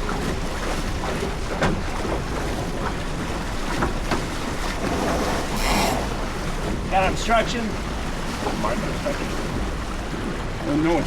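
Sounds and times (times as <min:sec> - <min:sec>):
wind buffeting microphone: 0:00.0 - 0:10.6
short water splashes: 0:00.0 - 0:11.0
water rushing along hull: 0:00.0 - 0:11.0.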